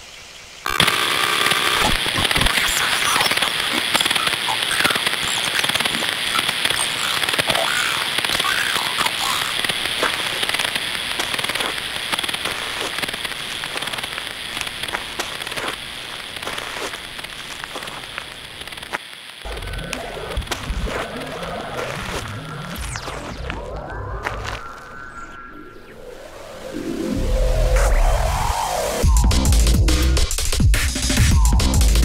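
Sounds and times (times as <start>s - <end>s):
static hiss: 0.0s - 32.0s
television static crackle: 0.6s - 29.0s.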